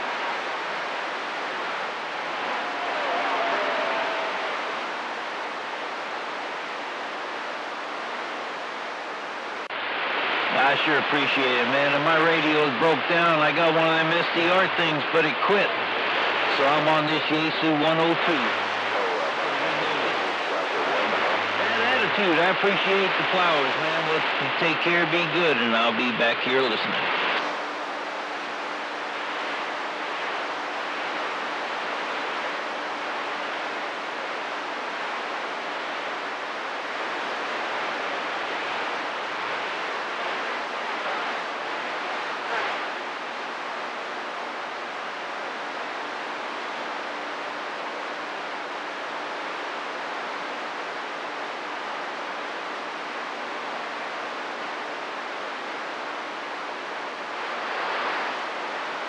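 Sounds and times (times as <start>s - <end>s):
radio crackle: 0.0s - 59.0s
radio static hiss: 0.0s - 59.0s.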